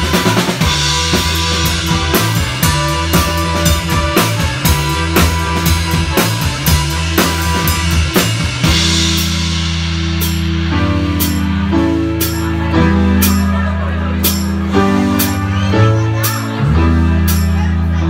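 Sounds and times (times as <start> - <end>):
bass guitar: 0.0 - 18.0
drum kit beat: 0.0 - 18.0
electric guitar: 0.0 - 18.0.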